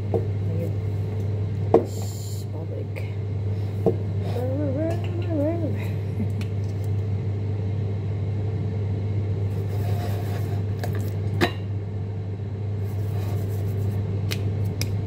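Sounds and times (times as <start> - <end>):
air fryer humming: 0.0 - 15.0.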